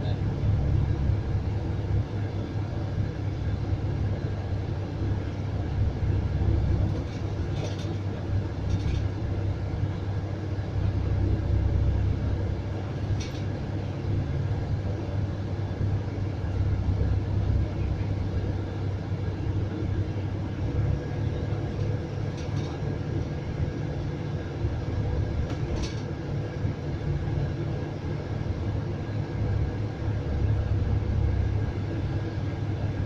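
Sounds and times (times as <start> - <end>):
coach engine and road noise: 0.0 - 33.0.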